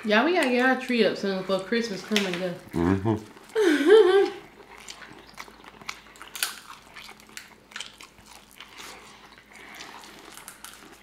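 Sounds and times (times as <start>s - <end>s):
chewing food: 0.0s - 11.0s.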